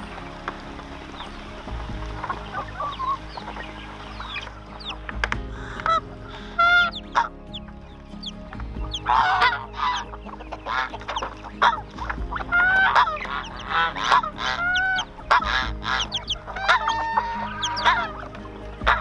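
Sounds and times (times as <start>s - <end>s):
geese honking: 0.0s - 19.0s
small birds chirping: 0.0s - 19.0s.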